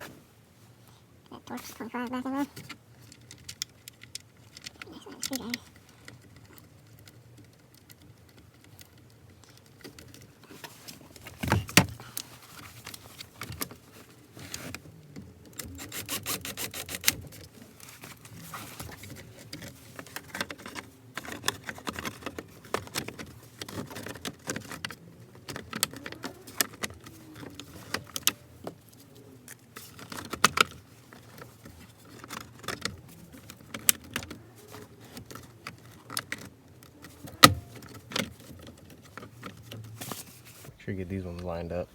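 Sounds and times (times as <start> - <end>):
tools and parts clinking: 2.5 - 40.7.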